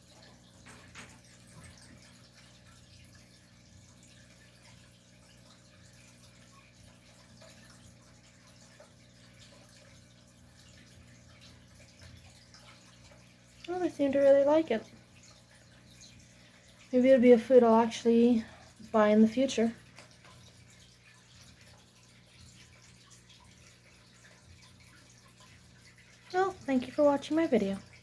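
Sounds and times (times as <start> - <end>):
water trickling and dripping: 0.0 - 28.0.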